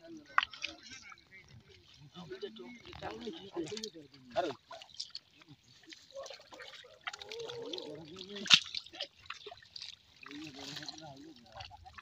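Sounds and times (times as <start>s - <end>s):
men talking: 0.0s - 9.2s, 10.2s - 12.0s
water dripping and splashing: 0.1s - 12.0s.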